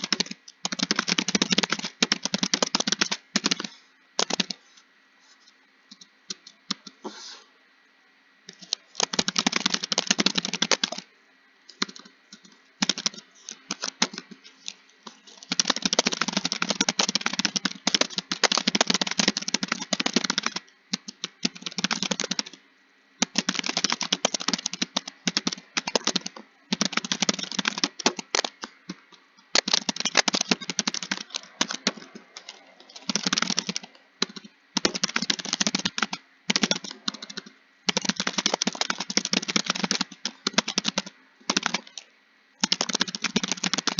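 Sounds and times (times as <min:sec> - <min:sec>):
computer keyboard typing: 0:00.0 - 0:04.6, 0:08.5 - 0:11.1, 0:11.7 - 0:22.6, 0:23.2 - 0:43.9.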